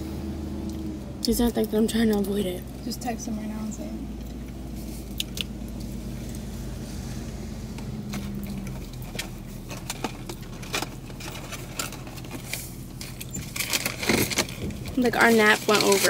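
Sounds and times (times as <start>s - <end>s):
car engine hum inside cabin: 0.0s - 16.0s.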